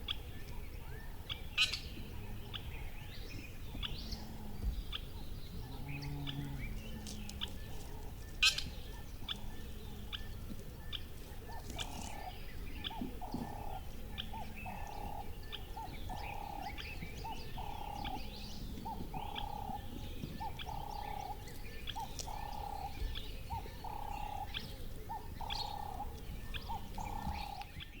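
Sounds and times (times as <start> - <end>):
birds chirping: 0.0 - 28.0
low background noise: 0.0 - 28.0.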